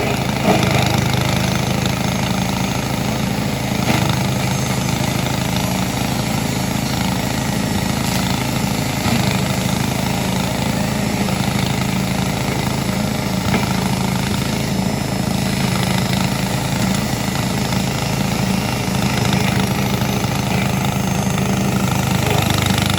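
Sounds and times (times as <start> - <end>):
grass chopper engine running: 0.0 - 22.9.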